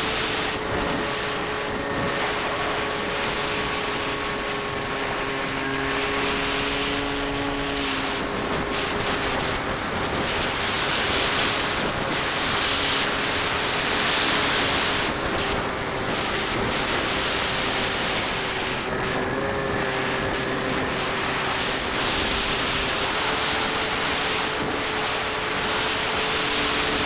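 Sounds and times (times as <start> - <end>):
electric motor and propeller hum: 0.0 - 27.0
wind rushing over microphone: 0.0 - 27.0.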